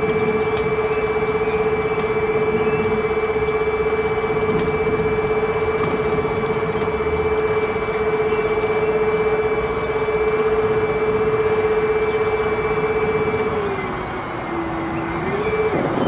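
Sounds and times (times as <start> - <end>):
electric outboard motor whine: 0.0 - 16.0
water rushing: 0.0 - 16.0
wind: 0.0 - 16.0.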